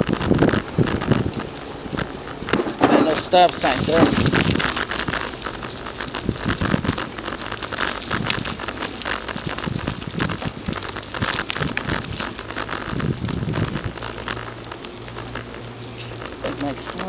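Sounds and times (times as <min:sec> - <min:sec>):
bicycle tyres rolling on pavement: 0:00.0 - 0:17.0
small crackles and knocks: 0:00.0 - 0:17.0
wind buffeting microphone: 0:00.0 - 0:17.0.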